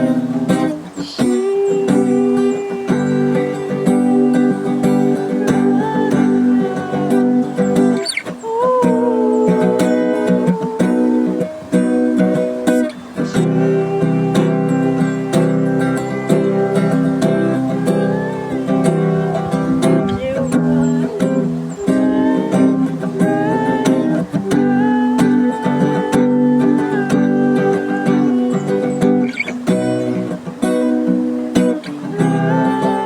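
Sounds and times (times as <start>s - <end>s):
acoustic guitar strumming: 0.0s - 33.0s
picked guitar melody: 0.0s - 33.0s.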